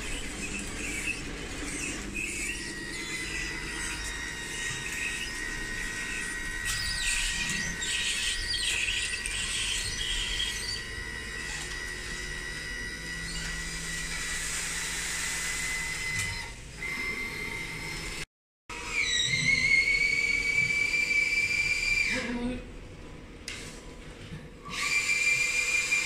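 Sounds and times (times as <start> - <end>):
hydraulic pump whining: 0.0 - 22.4, 24.4 - 26.0.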